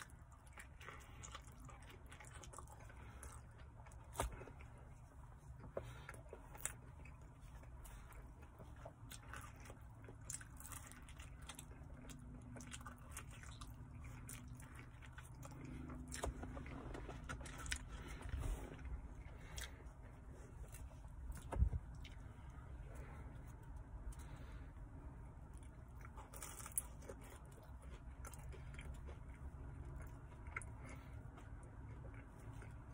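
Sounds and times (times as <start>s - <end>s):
chewing and biting pizza: 0.0s - 32.9s
faint low rumble: 0.0s - 32.9s.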